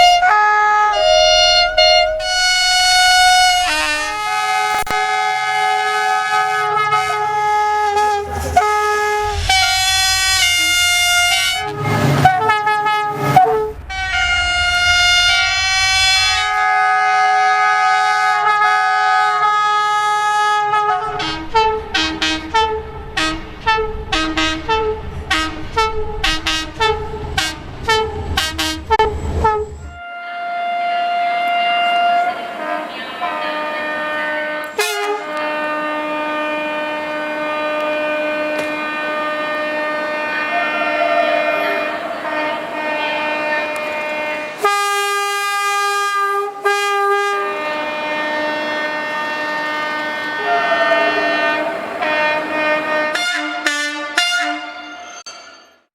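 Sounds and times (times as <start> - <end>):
train air horns: 0.0 - 55.3
low rumble of train: 0.0 - 55.8.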